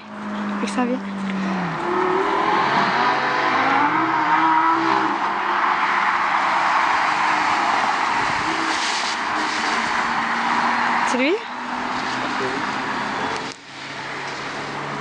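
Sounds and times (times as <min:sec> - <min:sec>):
tyre noise: 0:00.0 - 0:13.5
race car engine at speed: 0:00.0 - 0:15.0.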